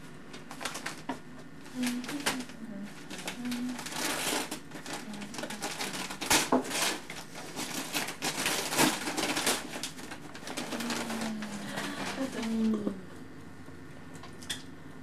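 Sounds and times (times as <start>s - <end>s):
wrapping paper tearing and crumpling: 0.4s - 12.7s.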